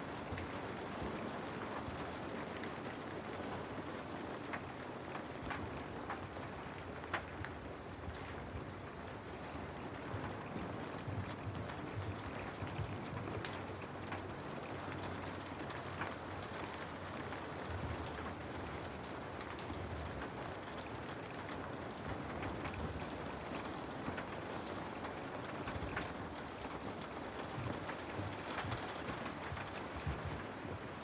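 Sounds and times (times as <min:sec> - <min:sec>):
rain on a window: 0:00.0 - 0:31.0.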